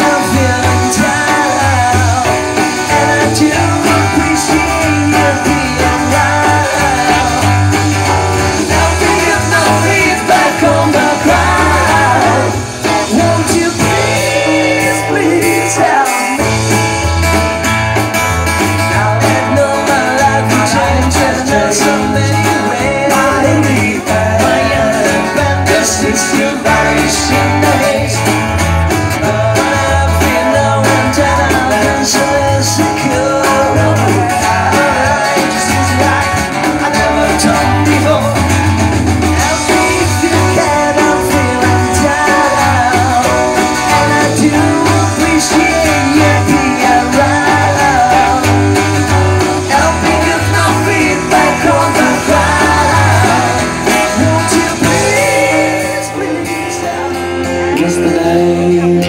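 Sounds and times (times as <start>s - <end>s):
pulsing bass notes: 0.0s - 59.0s
rock band playing: 0.0s - 59.0s.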